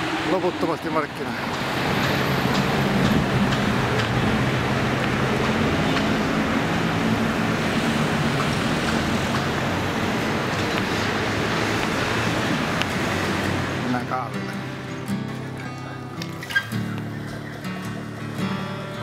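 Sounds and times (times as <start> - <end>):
low engine drone: 0.0 - 19.0
passing cars and motorbikes: 0.0 - 19.0.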